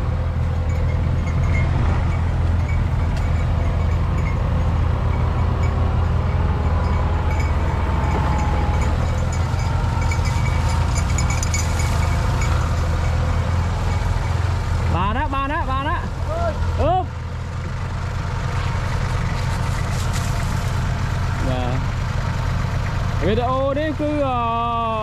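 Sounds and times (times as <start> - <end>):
diesel farm machinery running: 0.0 - 25.0.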